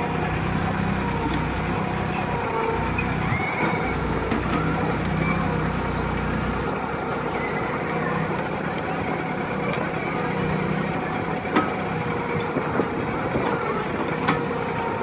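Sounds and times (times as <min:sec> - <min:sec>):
diesel tractor engine running: 0:00.0 - 0:15.0
hydraulic backhoe moving: 0:00.0 - 0:15.0.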